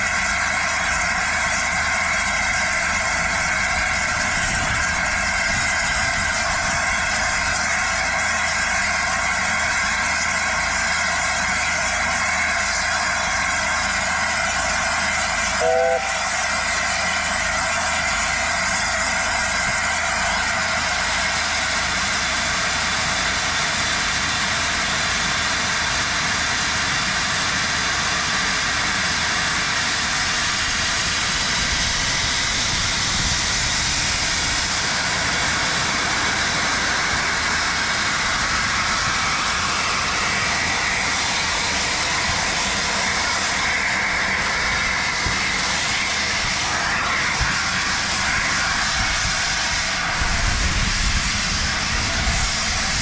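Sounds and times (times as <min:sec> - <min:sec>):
steam hissing from locomotive: 0:00.0 - 0:53.0.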